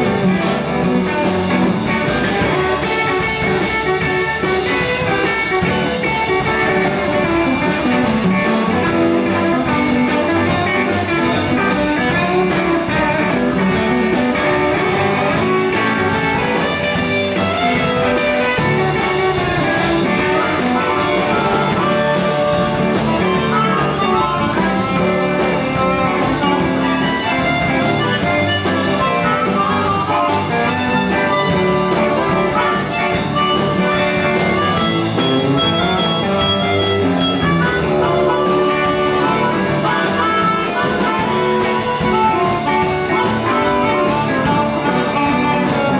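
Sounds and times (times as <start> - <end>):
drum kit: 0.0 - 45.9
electric guitars: 0.0 - 45.9
harmonica through a microphone: 0.0 - 45.9.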